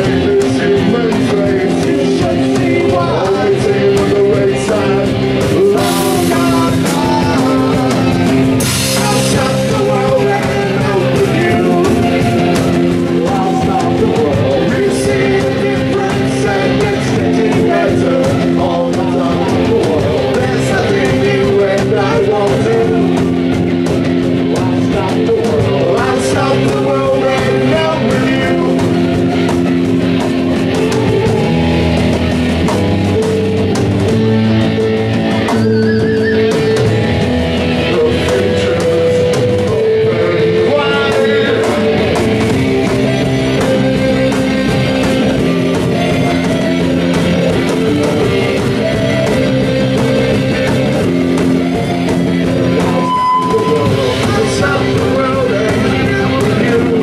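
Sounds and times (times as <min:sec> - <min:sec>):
person singing: 0:00.0 - 0:34.3, 0:35.6 - 0:57.0
drum kit: 0:00.0 - 0:57.0
electric guitar: 0:00.0 - 0:57.0
keyboards: 0:00.0 - 0:57.0.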